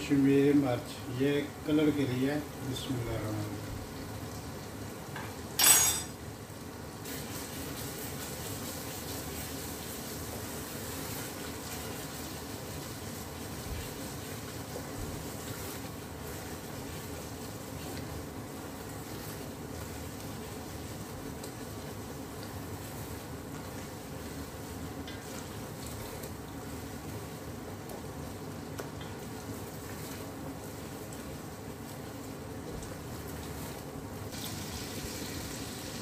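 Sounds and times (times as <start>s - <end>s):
masala sizzling and bubbling: 0.0s - 36.0s.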